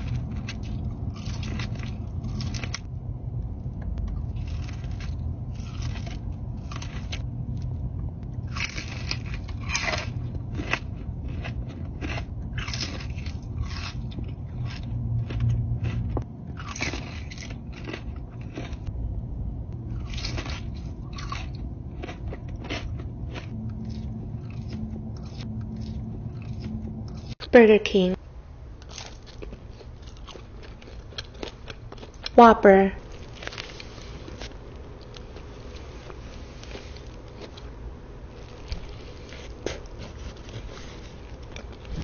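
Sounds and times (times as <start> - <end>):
person chewing crunchy food: 0.0 - 2.9, 3.9 - 18.9, 19.8 - 27.4, 28.8 - 32.4, 33.0 - 42.0.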